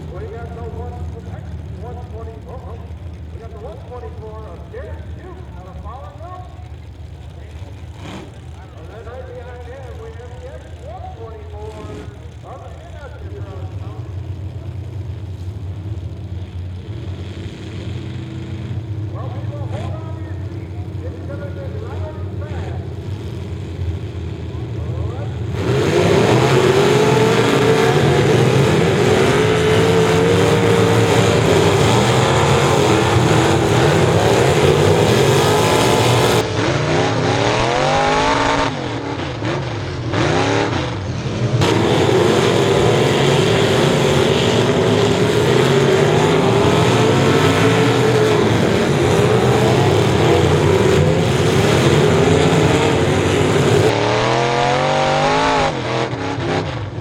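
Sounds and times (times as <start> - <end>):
race car engines at high revs: 0.0 - 57.0.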